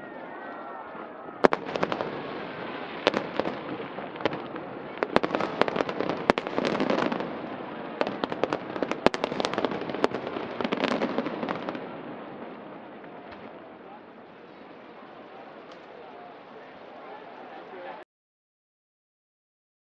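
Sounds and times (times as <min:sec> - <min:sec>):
fireworks bangs and crackles: 0:00.1 - 0:16.1.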